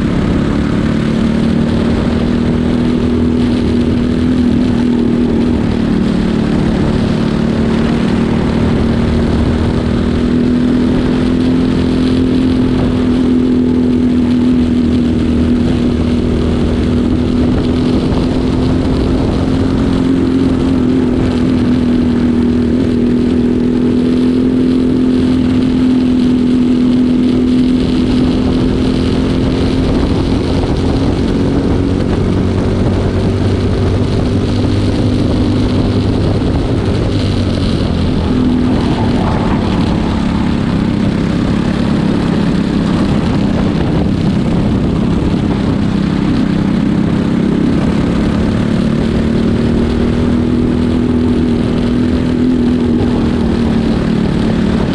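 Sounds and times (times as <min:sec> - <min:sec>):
kart engine running at high revs: 0:00.0 - 0:54.9.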